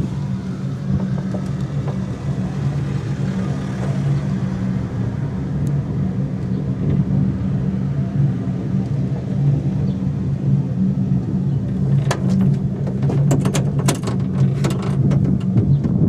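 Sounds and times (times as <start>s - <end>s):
cable car humming: 0.0s - 16.0s.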